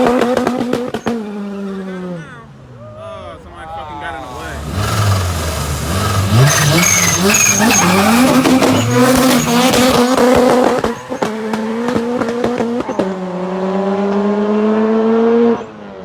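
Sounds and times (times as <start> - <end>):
car engine at high revs: 0.0 - 2.5, 4.0 - 16.0.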